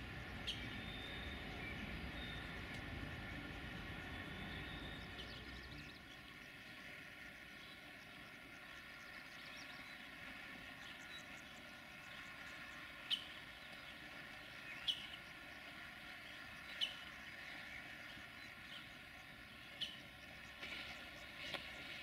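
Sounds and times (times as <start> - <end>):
distant railcar hum: 0.0 - 22.0.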